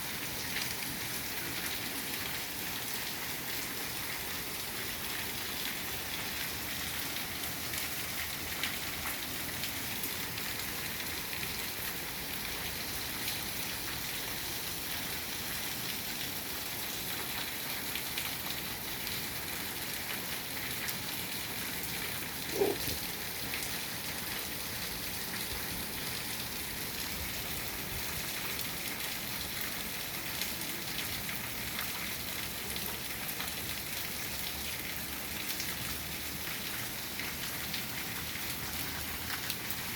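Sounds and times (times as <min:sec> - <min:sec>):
heavy rain falling: 0:00.2 - 0:39.9.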